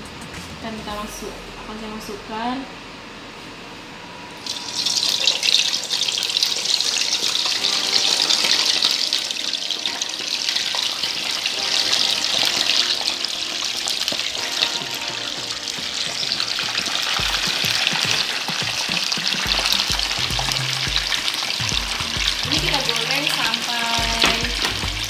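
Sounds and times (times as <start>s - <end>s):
chicken sizzling in hot oil: 4.4s - 25.0s.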